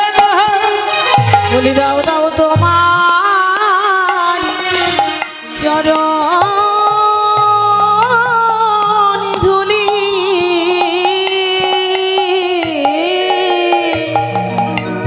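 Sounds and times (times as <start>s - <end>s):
woman singing: 0.0s - 14.6s.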